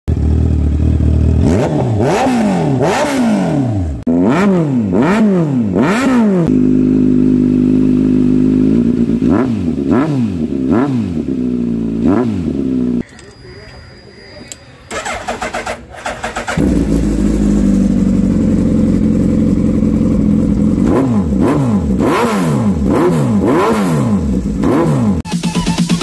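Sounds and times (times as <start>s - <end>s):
motorcycle engines revving: 0.1s - 13.8s, 14.4s - 25.3s.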